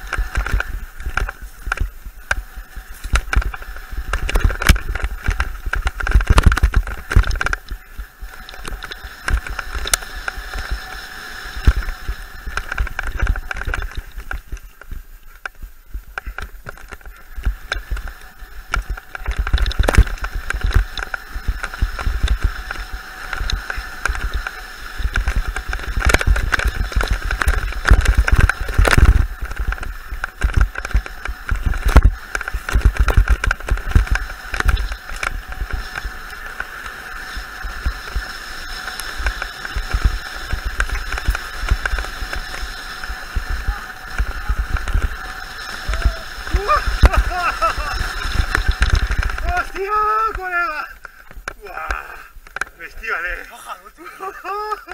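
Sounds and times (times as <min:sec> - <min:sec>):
rumbling air noise: 0:00.0 - 0:54.2
bike rattling on trail: 0:00.0 - 0:54.9
steady high buzz: 0:00.0 - 0:54.9.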